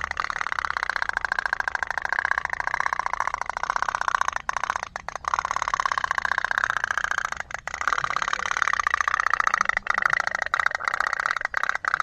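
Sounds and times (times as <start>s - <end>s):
toy steam boat putt-putt: 0.0s - 12.0s.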